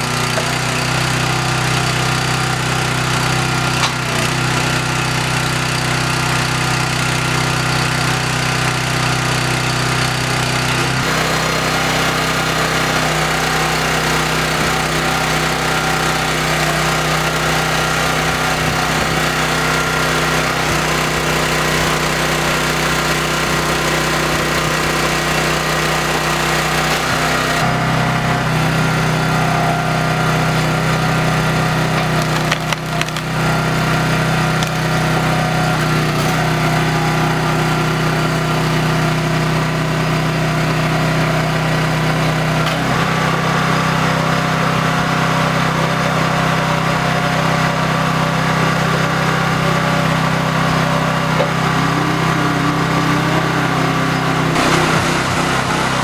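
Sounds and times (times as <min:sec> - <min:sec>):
small gas engine running: 0:00.0 - 0:56.0.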